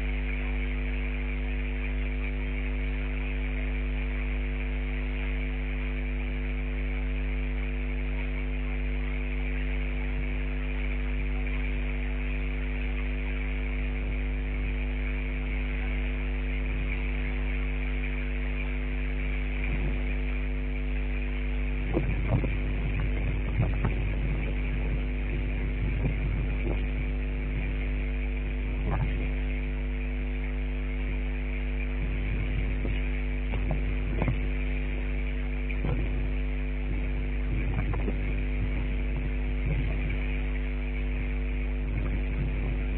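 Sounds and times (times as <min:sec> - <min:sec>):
steady hum of held tones: 0:00.0 - 0:42.9.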